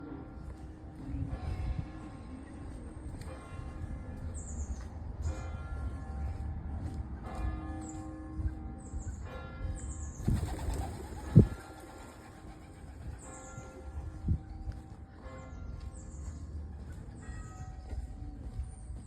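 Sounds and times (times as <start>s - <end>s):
church bells ringing: 0.0s - 10.2s, 10.8s - 18.4s.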